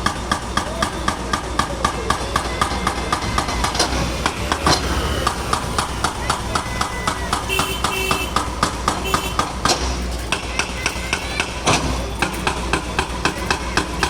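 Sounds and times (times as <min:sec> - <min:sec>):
concrete breaker hammering: 0:00.0 - 0:14.0.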